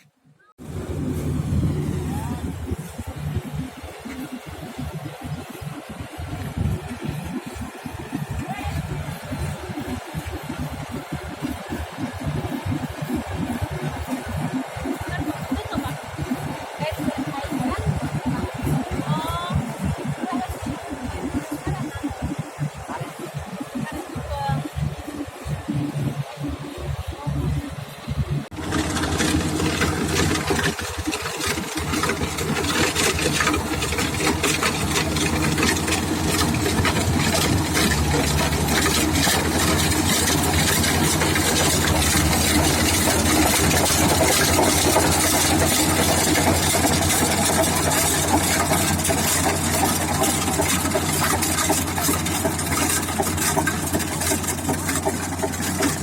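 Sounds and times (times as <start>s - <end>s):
thresher engine running: 0.6s - 56.0s.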